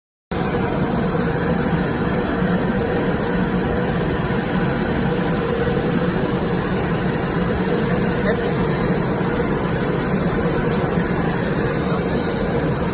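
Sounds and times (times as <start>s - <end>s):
jet engine running: 0.3s - 12.9s.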